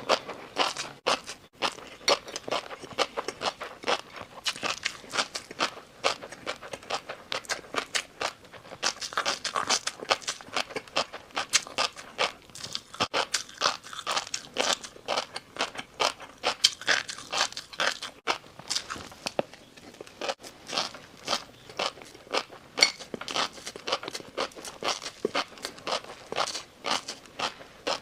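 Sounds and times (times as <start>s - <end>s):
person chewing crunchy noodles: 0.0s - 28.0s.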